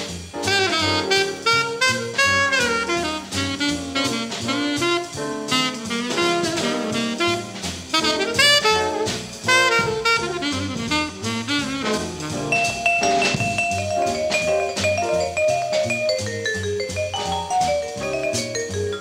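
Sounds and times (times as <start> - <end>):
drum kit: 0.0 - 19.0
lead melody with bending notes: 0.0 - 19.0.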